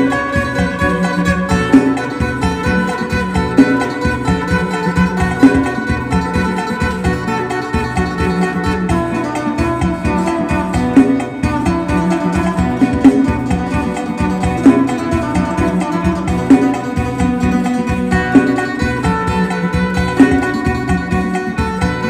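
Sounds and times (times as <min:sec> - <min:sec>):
plucked lute melody: 0:00.0 - 0:22.0
steady beat: 0:00.0 - 0:22.0.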